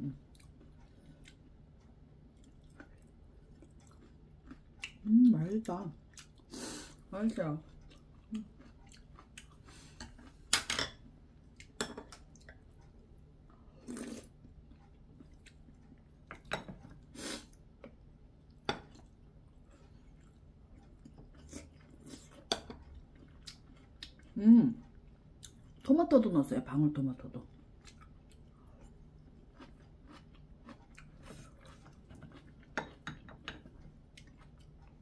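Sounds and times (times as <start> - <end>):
chewing and mouth noises: 0.2 - 6.5, 7.6 - 10.5, 11.5 - 16.1, 16.8 - 25.9, 27.5 - 35.0.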